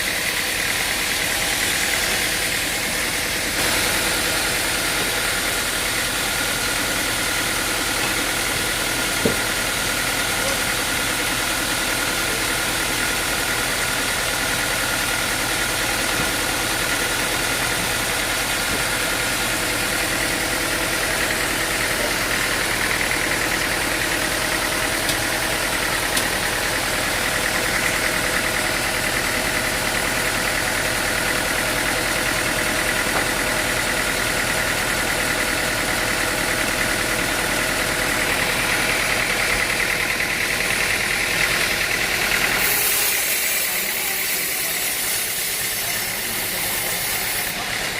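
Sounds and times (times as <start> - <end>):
machine engine running: 0.0 - 47.9.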